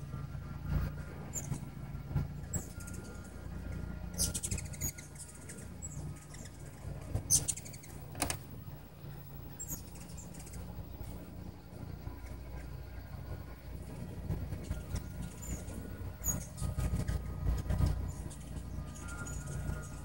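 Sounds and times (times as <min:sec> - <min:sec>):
hummingbird wing hum: 0:00.0 - 0:20.0.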